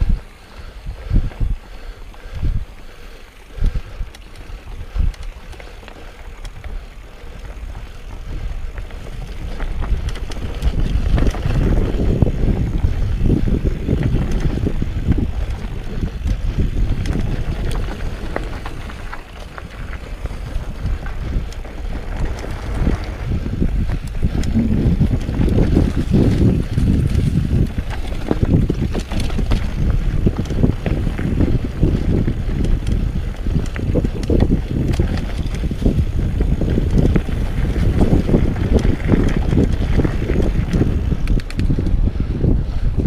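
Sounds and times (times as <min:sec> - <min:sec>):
bike clicks and rattles: 0:00.0 - 0:43.0
tyres rumbling on trail: 0:00.0 - 0:43.0
wind buffeting microphone: 0:00.0 - 0:43.0.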